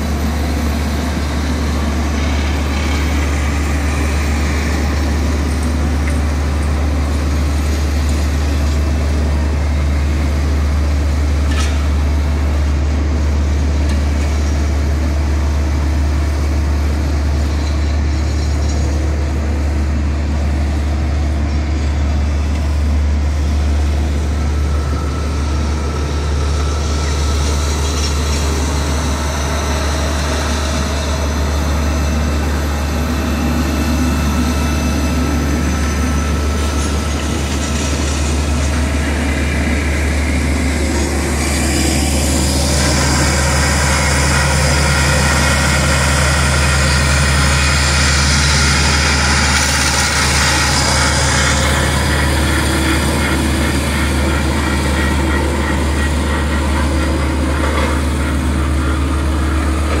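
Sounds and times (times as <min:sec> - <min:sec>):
heavy diesel engines running: 0:00.0 - 1:00.0.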